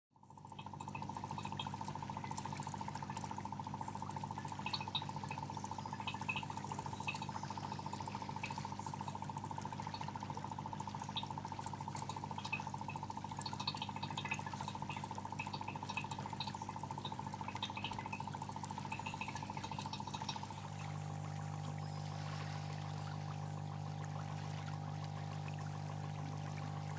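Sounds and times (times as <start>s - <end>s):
water bubbling and trickling: 0.2s - 26.9s.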